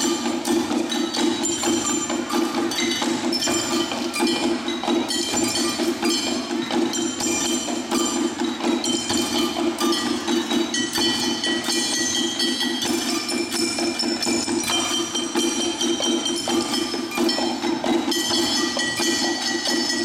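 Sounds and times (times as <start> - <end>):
metal cookware struck rhythmically: 0.0 - 20.0.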